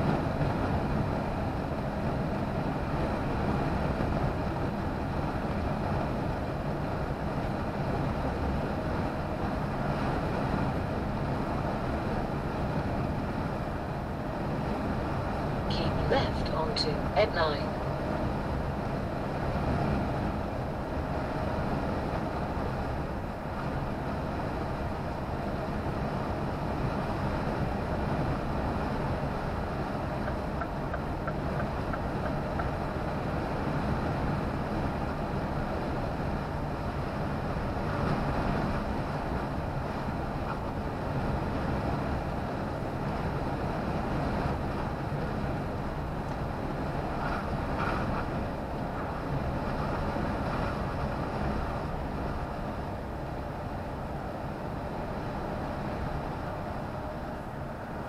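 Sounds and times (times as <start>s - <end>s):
engine and tyre road drone: 0.0s - 58.0s
wind noise: 0.0s - 58.0s.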